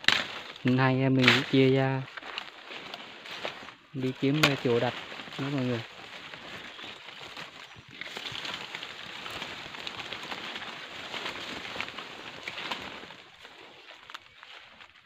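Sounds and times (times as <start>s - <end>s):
footsteps through dry leaves: 0.0s - 15.0s.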